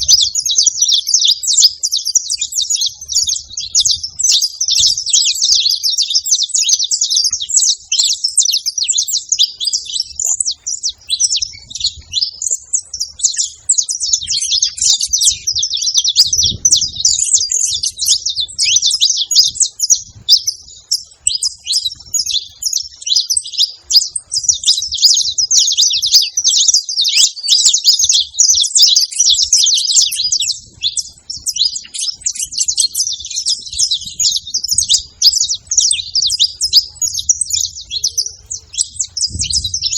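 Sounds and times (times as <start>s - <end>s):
finches chirping and calling: 0.0s - 39.9s.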